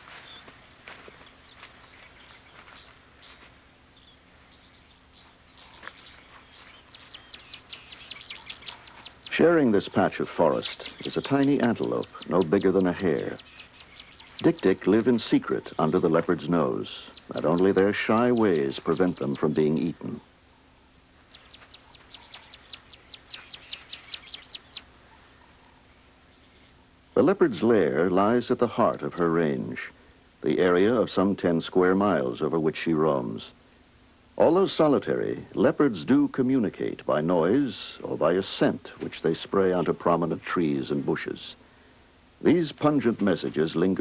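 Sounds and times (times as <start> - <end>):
birds chirping and calling: 0.0 - 29.9, 34.4 - 44.0.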